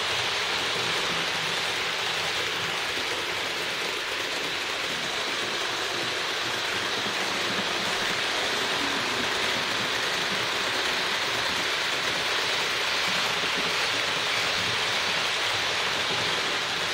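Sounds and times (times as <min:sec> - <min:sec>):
model train motor whirring: 0:00.0 - 0:16.9
wheels rattling on rails: 0:00.0 - 0:16.9.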